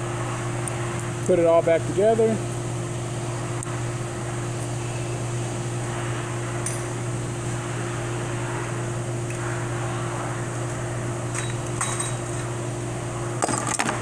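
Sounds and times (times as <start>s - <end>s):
fan machine hum: 0.0s - 14.0s.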